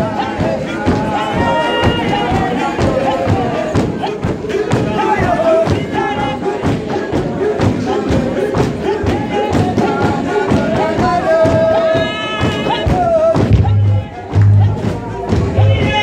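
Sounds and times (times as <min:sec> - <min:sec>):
church choir singing: 0:00.0 - 0:16.0
steady thumping beat: 0:00.0 - 0:16.0.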